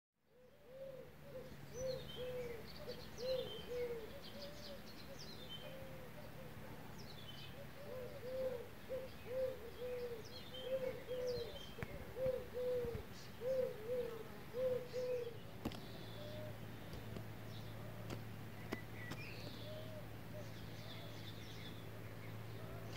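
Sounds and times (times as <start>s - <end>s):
small birds chirping: 0.3s - 22.9s
bird repeating low note: 0.4s - 22.9s.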